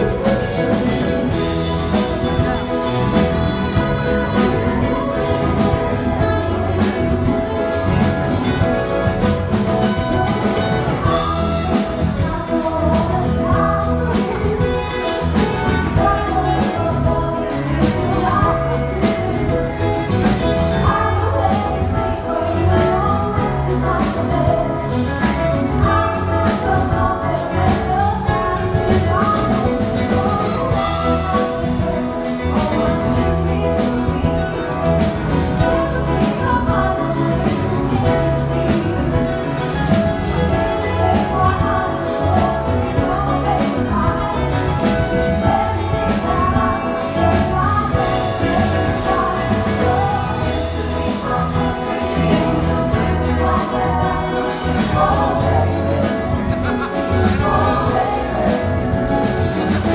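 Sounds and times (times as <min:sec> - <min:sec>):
big band playing pop song: 0:00.0 - 0:59.9
drum kit beat: 0:00.0 - 0:59.9
person singing: 0:00.0 - 0:59.9.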